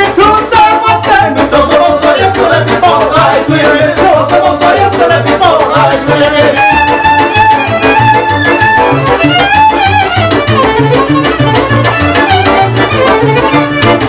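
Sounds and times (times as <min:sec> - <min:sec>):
accordion: 0:00.0 - 0:14.0
fiddle playing folk tune: 0:00.0 - 0:14.0
plucked double bass: 0:00.0 - 0:14.0.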